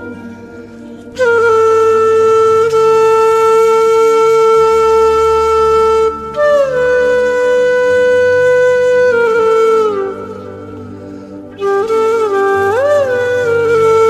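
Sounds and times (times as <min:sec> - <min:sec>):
wind instrument long notes: 0:00.0 - 0:14.0.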